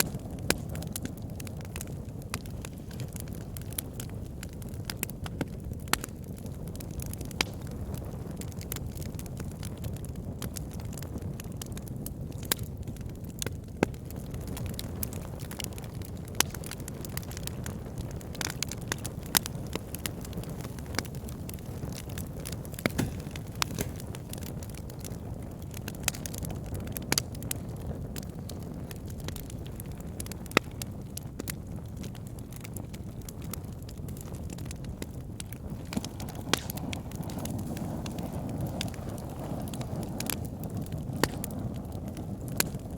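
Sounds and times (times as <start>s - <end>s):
fire rumbling: 0.0s - 42.9s
wood fire crackling and popping: 0.0s - 42.9s.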